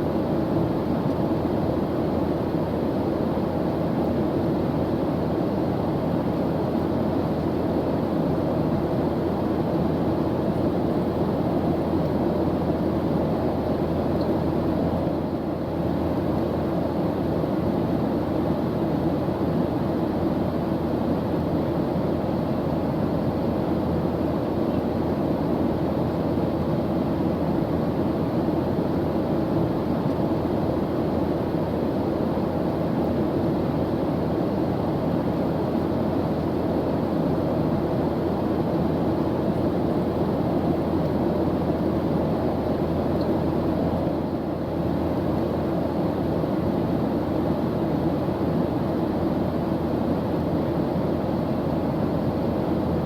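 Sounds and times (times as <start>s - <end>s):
airplane engine in flight: 0.0s - 53.0s.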